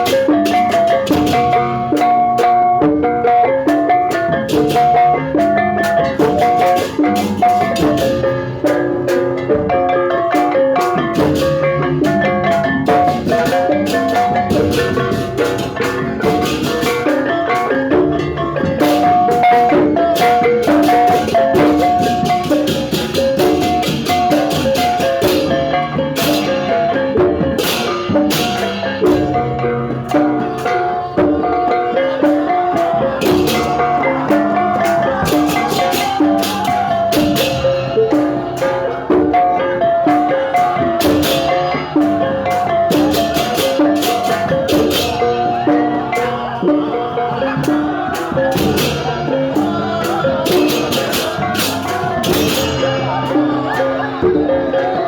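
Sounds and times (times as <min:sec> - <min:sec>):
mallet percussion notes: 0:00.0 - 0:55.0
steady drum beat: 0:00.0 - 0:55.0.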